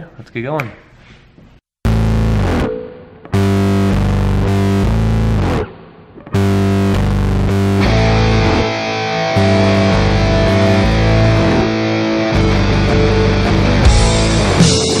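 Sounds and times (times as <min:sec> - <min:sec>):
rock music with distorted guitar: 0:01.9 - 0:15.0.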